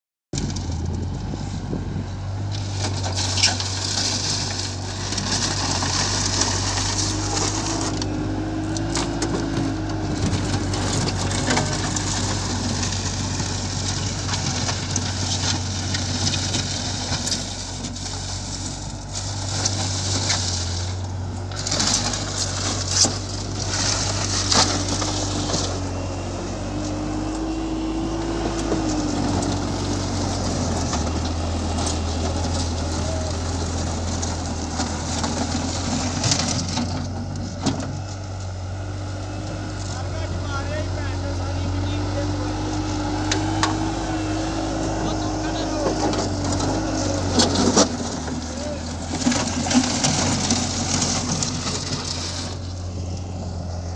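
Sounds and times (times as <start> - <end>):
loader engine running: 0.3 - 53.9
material crunching and scraping: 2.4 - 38.4, 39.3 - 53.9.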